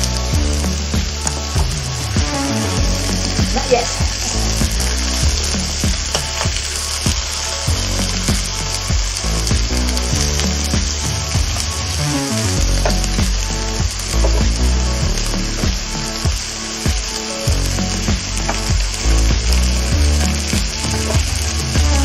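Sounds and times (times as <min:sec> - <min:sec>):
steak and vegetables sizzling on grill: 0:00.0 - 0:22.0.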